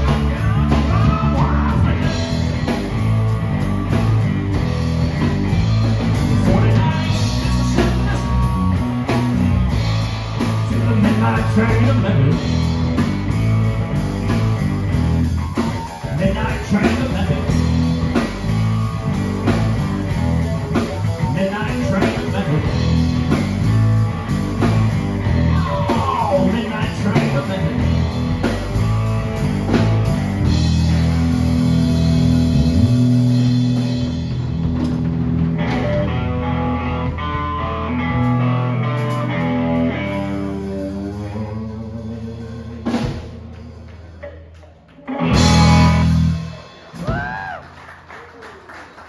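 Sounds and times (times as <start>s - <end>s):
electric bass: 0.0s - 47.6s
electric guitar: 0.0s - 48.2s
drum kit: 0.0s - 48.6s.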